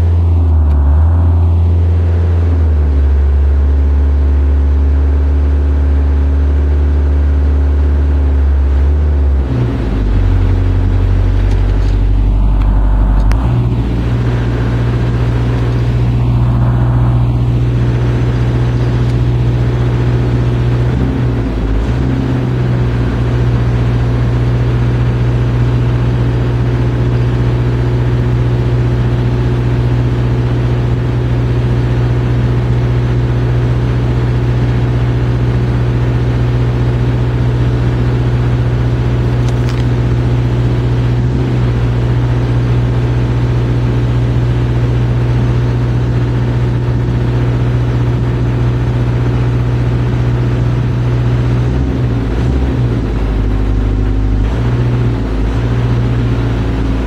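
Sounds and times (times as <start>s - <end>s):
boom lift engine humming: 0.0s - 57.0s.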